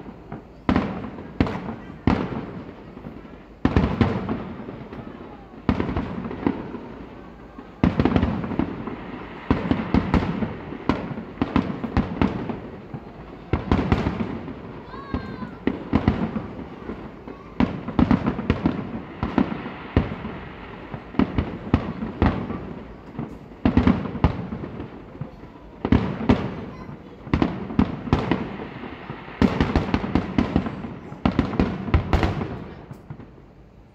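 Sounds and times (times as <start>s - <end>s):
fireworks bangs: 0.0s - 33.9s
fireworks rumble and crackle: 0.0s - 33.9s.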